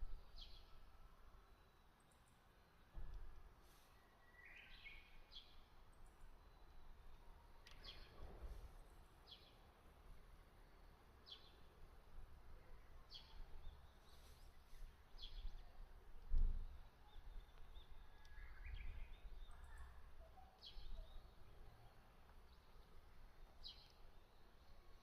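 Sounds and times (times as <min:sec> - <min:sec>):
soft bird chirps: 0:00.0 - 0:11.8, 0:12.4 - 0:25.0.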